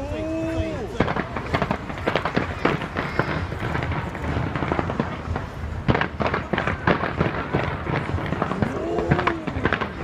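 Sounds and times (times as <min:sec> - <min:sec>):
fireworks bangs and crackles: 0:00.0 - 0:10.0
steady low rumble: 0:00.8 - 0:10.0.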